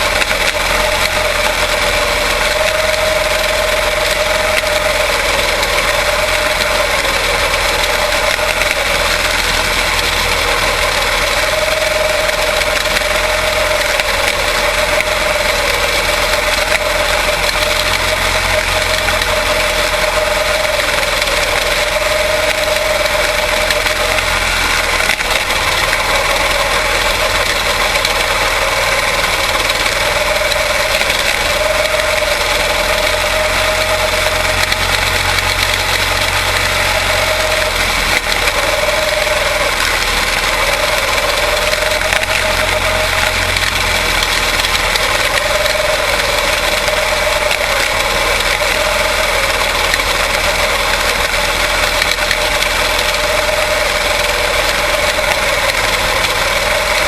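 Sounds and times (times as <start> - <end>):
race car engines buzzing: 0.0 - 57.0.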